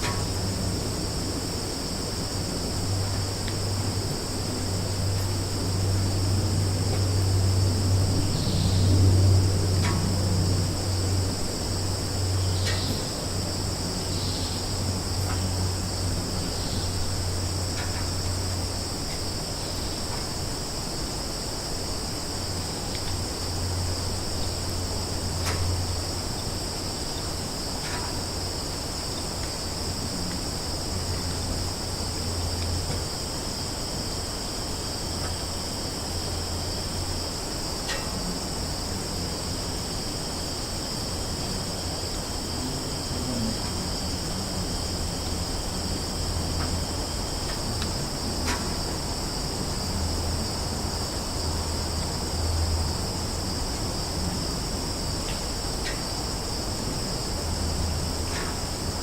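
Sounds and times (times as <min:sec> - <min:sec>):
crickets and insects chorus: 0:00.0 - 0:59.0.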